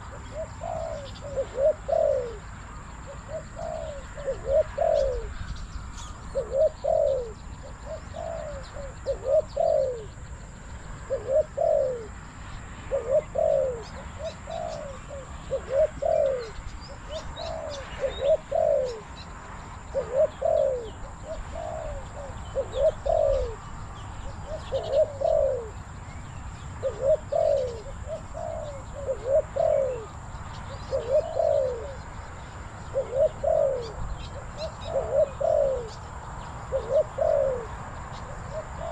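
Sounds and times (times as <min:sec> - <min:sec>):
dove cooing: 0:00.0 - 0:38.9
small birds chirping: 0:00.0 - 0:38.9.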